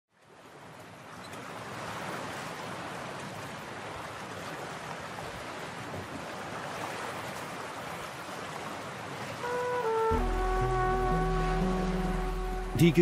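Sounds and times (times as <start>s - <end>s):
sea waves washing: 0.3s - 13.0s.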